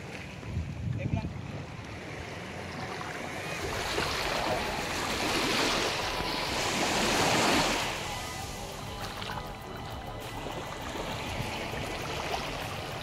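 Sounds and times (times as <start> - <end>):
waves washing onto shore: 0.0 - 13.0.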